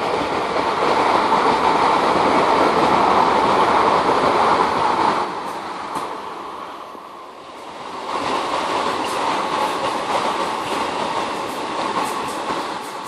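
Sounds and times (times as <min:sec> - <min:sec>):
train rushing on rails: 0:00.0 - 0:13.0.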